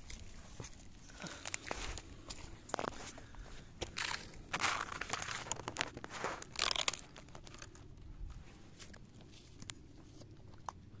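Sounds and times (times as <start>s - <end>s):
twigs and soil crunching: 0.0s - 11.0s.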